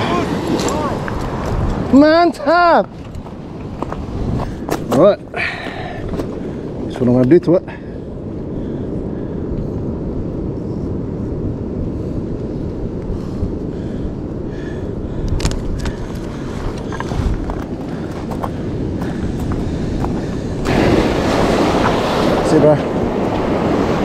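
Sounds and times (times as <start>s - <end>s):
ocean surf: 0.0s - 24.0s
wind: 0.0s - 24.0s.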